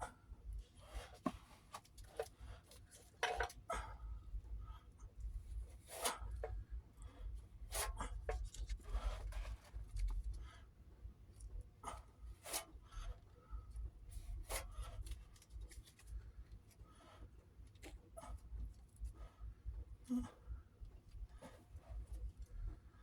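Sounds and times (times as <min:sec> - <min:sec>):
low steady rumble: 0:02.4 - 0:23.0.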